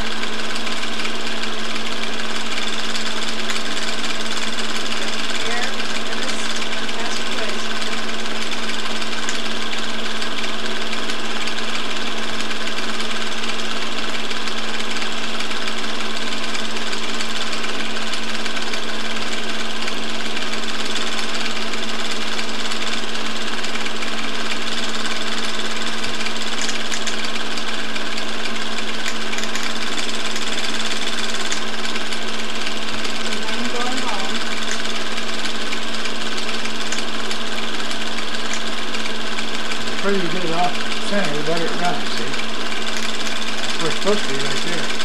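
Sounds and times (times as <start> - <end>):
constant hum: 0.0 - 45.0
film projector whirr and clatter: 0.0 - 45.0.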